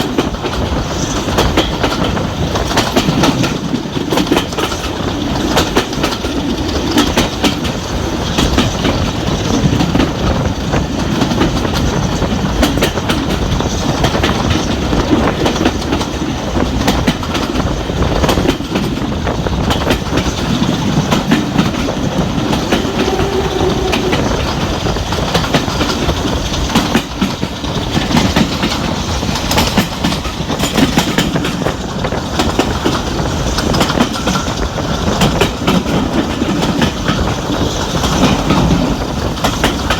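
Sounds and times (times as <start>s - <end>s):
train wheels rumbling: 0.0s - 39.9s
wheels clicking over track: 0.0s - 39.9s.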